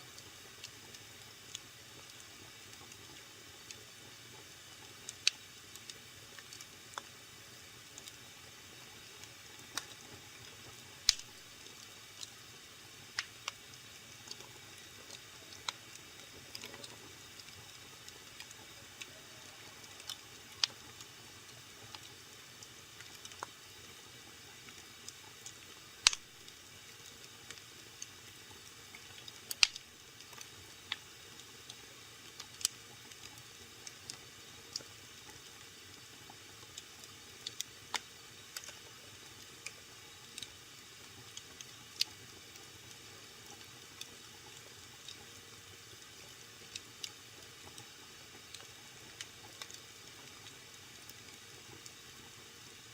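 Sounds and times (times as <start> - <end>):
wood fire crackling: 0.1 - 52.9.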